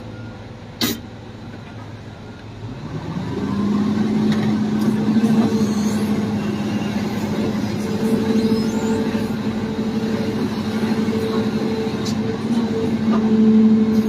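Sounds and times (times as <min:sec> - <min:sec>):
heavy diesel engine revving: 0:02.6 - 0:14.0.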